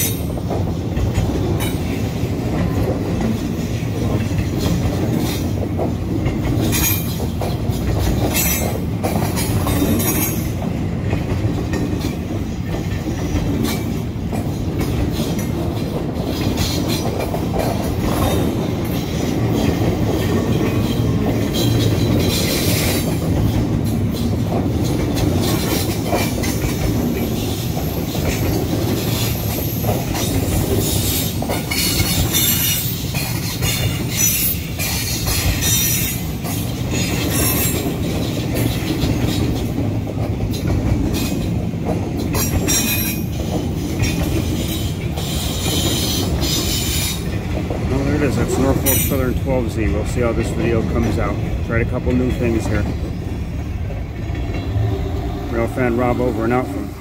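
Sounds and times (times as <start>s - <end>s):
freight train rumbling: 0.0s - 57.0s
steel wheels clattering on rails: 0.0s - 57.0s.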